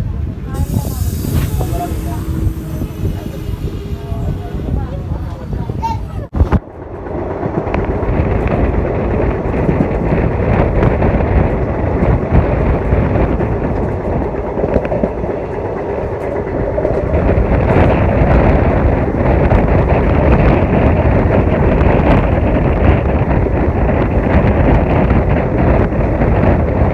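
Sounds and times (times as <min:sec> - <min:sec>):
train rumbling on rails: 0:00.0 - 0:26.9
wind on microphone: 0:00.0 - 0:26.9.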